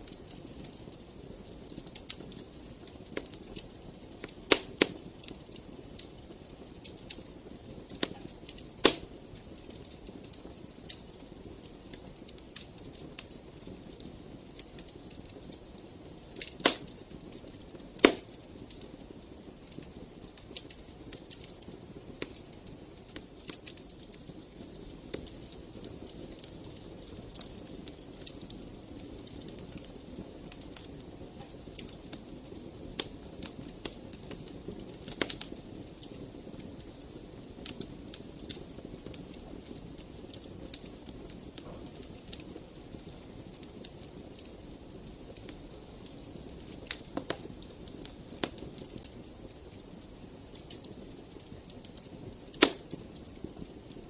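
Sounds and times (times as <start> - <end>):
fire crackling and popping: 0.0 - 54.0
low rush of flames: 0.0 - 54.0.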